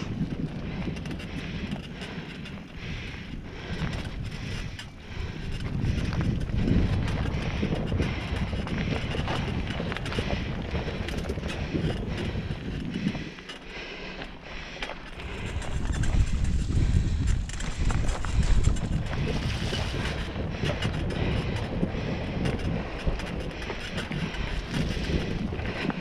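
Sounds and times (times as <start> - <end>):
bike rattles and clicks: 0.0 - 26.0
tyres rolling on dirt: 0.0 - 26.0
wind buffeting microphone: 0.0 - 26.0.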